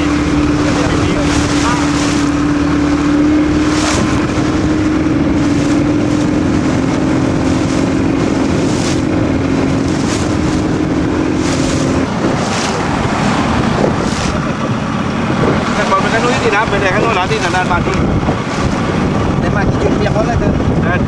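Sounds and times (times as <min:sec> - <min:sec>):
water splashing: 0:00.0 - 0:20.2
motorboat engine running: 0:00.0 - 0:21.0
wind rushing: 0:00.0 - 0:21.0.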